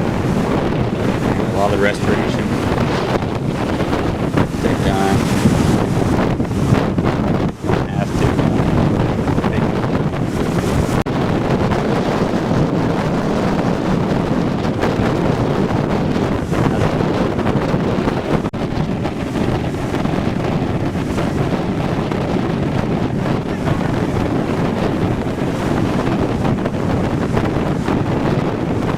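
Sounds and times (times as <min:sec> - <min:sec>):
heavy surf rolling onto beach: 0:00.0 - 0:28.9
wind buffeting microphone: 0:00.0 - 0:28.9.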